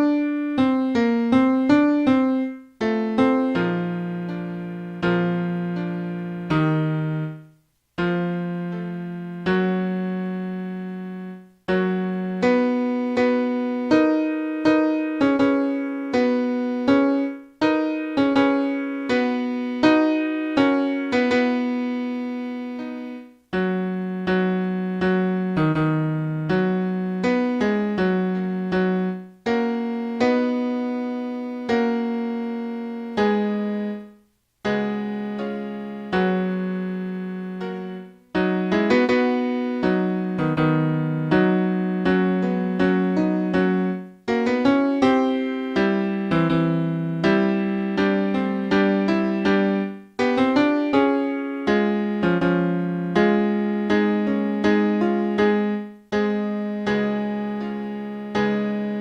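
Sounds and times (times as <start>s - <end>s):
electric piano playing: 0.0s - 59.0s.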